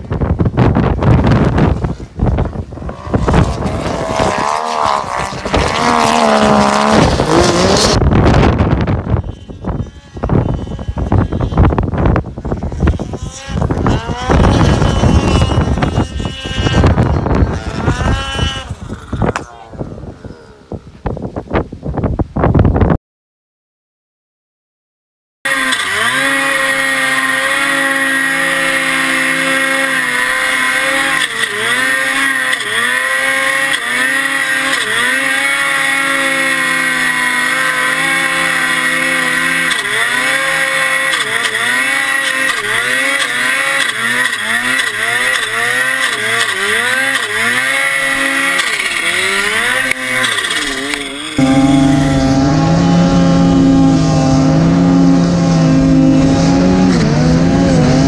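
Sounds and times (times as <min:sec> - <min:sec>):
snowmobile engine revving: 0:00.0 - 0:20.9, 0:25.5 - 0:58.0.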